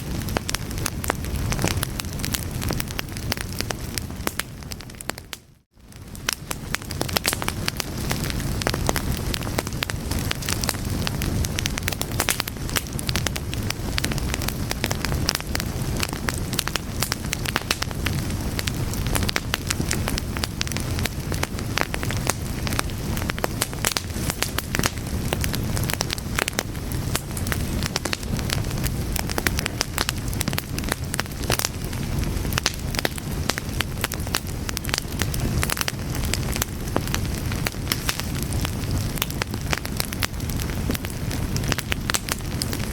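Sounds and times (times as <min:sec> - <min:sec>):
fire crackling and popping: 0:00.0 - 0:42.9
low rumble of flames: 0:00.0 - 0:42.9.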